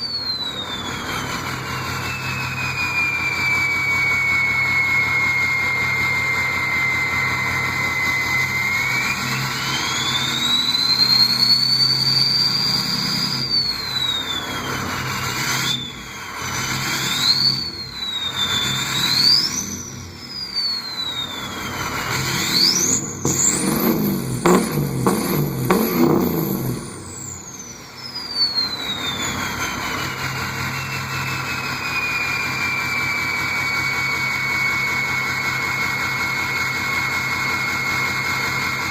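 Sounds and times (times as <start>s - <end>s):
turbo whistle: 0.0s - 38.9s.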